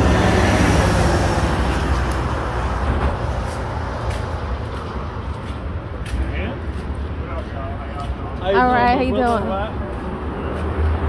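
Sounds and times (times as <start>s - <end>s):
passing vehicle road noise: 0.0s - 11.0s.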